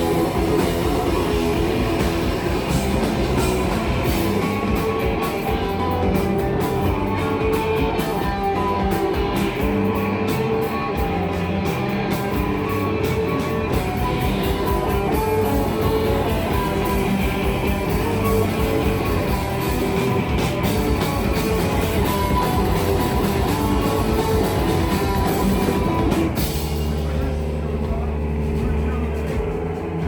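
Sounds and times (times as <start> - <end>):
drum kit: 0.0 - 30.0
electric guitar: 0.0 - 30.0.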